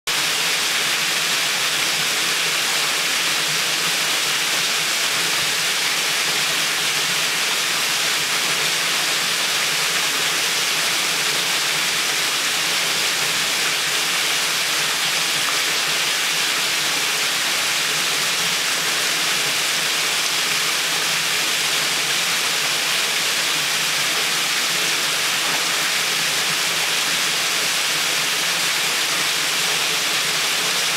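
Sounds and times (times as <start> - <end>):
water rushing and splashing: 0.2 - 30.9.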